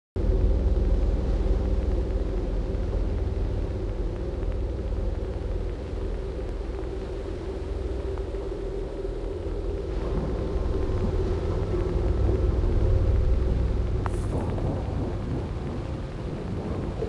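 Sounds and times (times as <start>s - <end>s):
deep rumble: 0.2s - 17.0s.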